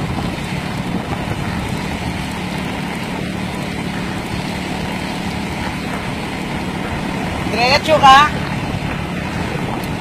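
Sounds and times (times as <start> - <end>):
small motorbike engine running: 0.0 - 10.0
wind noise on microphone: 0.0 - 10.0.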